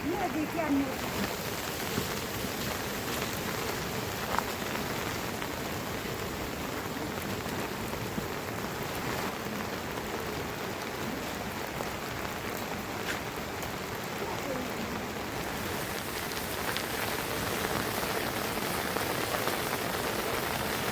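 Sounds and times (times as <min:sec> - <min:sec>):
louder raindrops: 0:00.0 - 0:20.9
steady rain falling: 0:00.0 - 0:20.9.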